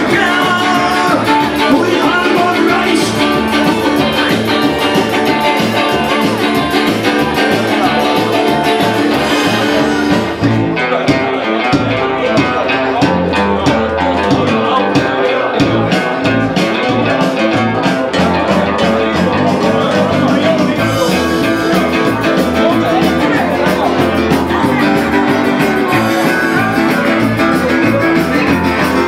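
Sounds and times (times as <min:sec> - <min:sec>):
band with strummed acoustic guitars: 0:00.0 - 0:29.0.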